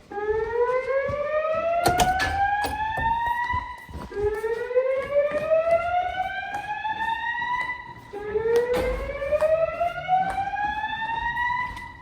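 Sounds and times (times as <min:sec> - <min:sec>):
fire alarm whoop tone: 0:00.1 - 0:12.0.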